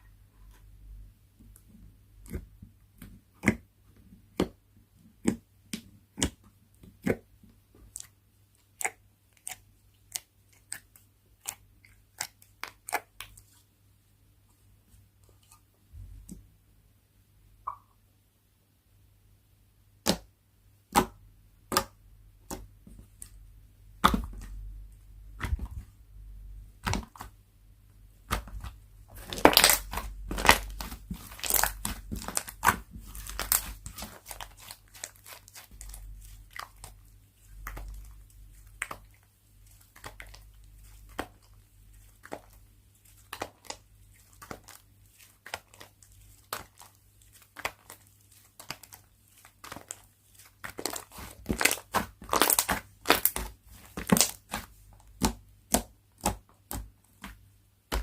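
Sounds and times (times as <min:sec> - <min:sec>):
hands squishing slime: 0:01.4 - 0:13.7, 0:20.0 - 0:26.0, 0:26.7 - 0:27.4, 0:28.2 - 0:58.0.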